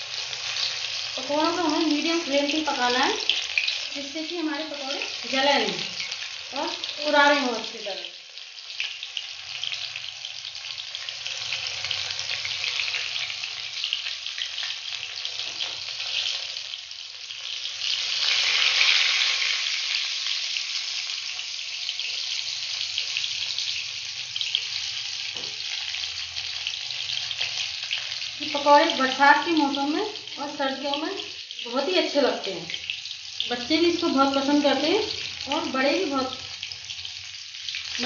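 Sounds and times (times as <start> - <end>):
food deep-frying in hot oil: 0.0 - 38.0.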